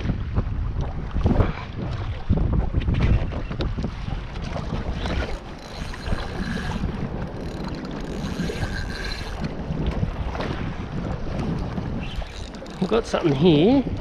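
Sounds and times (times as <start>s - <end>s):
water sloshing against kayak: 0.0s - 14.0s
wind buffeting microphone: 0.0s - 14.0s.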